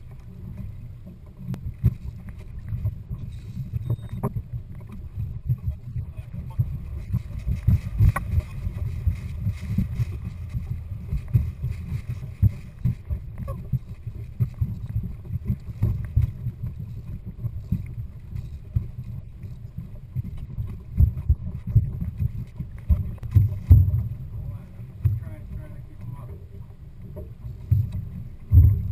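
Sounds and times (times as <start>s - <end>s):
outboard motors running: 0.0s - 28.9s
water along hull: 0.0s - 28.9s
wind buffeting microphone: 0.0s - 28.9s.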